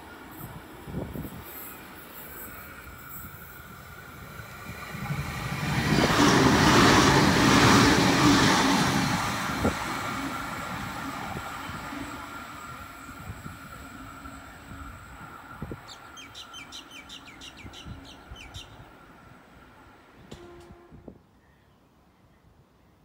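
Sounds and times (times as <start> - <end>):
diesel train passing: 0.0 - 21.1.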